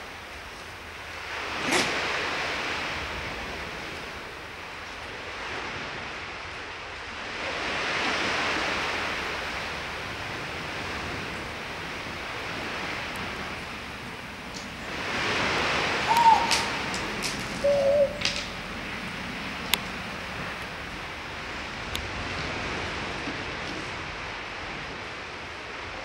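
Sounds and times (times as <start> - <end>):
surf washing in and out: 0.0 - 26.0.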